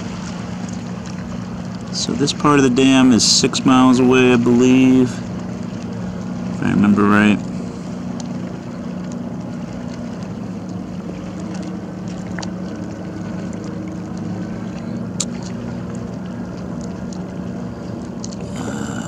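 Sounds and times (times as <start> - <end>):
motorboat engine droning: 0.0 - 19.0
small waves splashing: 0.0 - 19.0.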